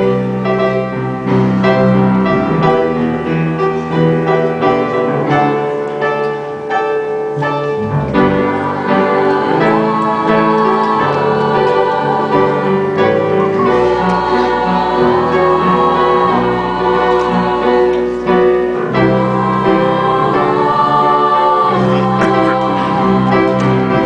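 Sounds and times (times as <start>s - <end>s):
keyboard chords: 0.0s - 24.0s.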